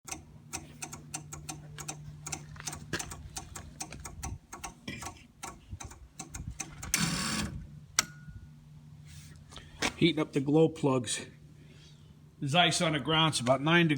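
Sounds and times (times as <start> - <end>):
diesel generator low hum: 0.1 - 13.9.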